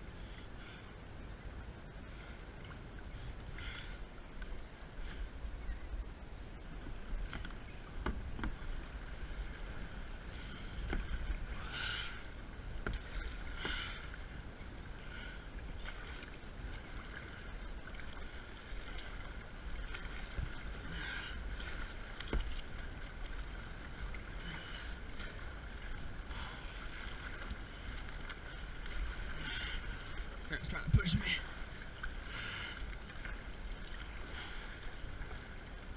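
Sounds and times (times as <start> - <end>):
wind rumble on microphone: 0.0 - 32.3
paddle splashes: 6.7 - 35.9.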